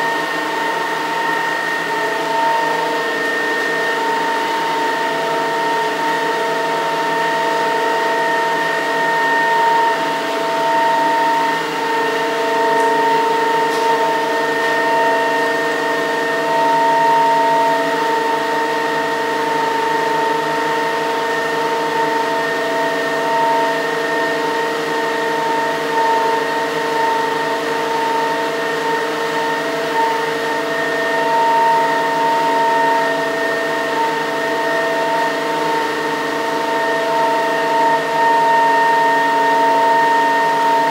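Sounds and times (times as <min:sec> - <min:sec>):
water turbine whine: 0:00.0 - 0:40.9.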